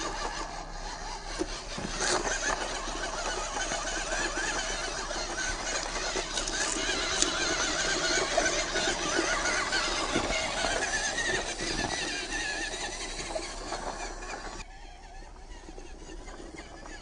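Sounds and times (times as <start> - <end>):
tires crunching on stones: 0.0 - 17.0
toy car motor whine: 0.0 - 17.0.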